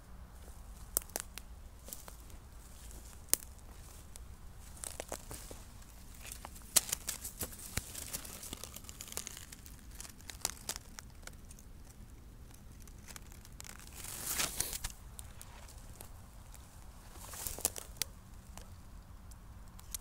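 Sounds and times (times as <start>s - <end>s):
pine needles and twigs rustling: 0.0s - 20.0s
twigs snapping: 0.4s - 20.0s.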